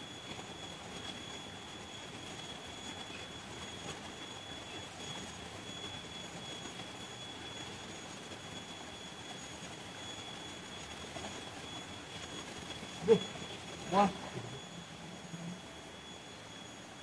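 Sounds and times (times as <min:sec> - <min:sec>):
high-pitched insect whines: 0:00.0 - 0:17.0.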